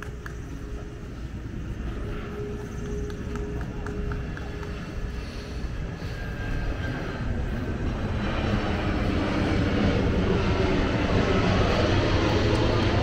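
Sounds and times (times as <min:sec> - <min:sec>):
jet engine rumble overhead: 0:00.0 - 0:13.0.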